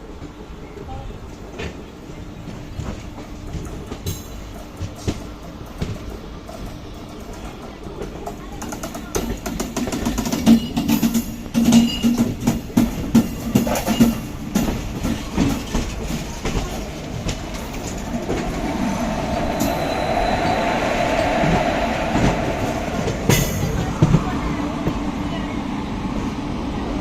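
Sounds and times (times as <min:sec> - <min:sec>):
locomotive running noise: 0:00.1 - 0:27.0
wheels clattering over rail joints: 0:02.8 - 0:24.5.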